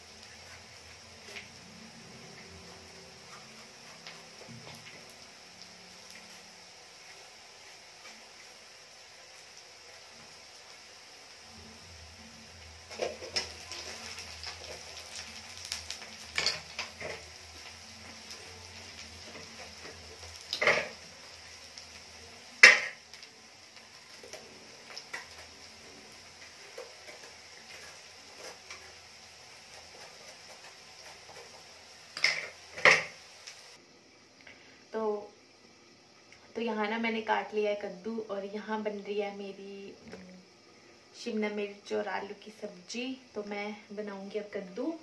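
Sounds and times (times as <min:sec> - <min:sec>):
faint sizzle of curry cooking: 0:00.0 - 0:45.0.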